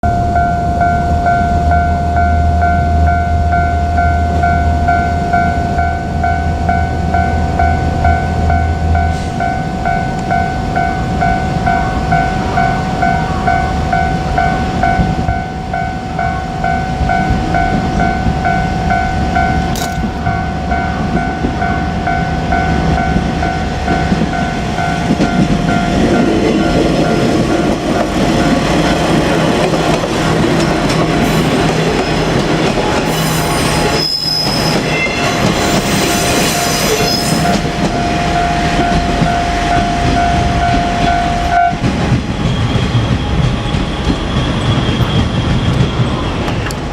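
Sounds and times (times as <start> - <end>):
level-crossing bell clanging: 0.0 - 46.8
high-pitched train noise: 0.0 - 46.9
train engine and wheels rumbling: 0.0 - 46.9.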